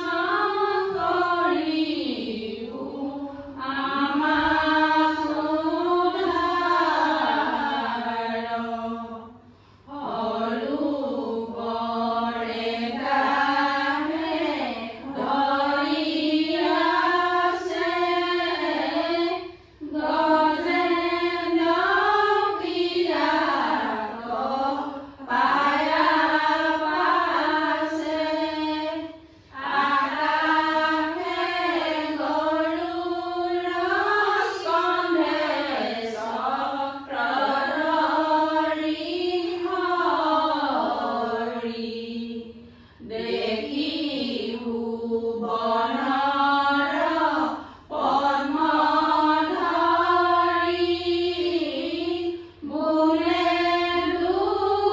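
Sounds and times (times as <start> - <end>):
women singing prayer in unison: 0.0 - 54.9.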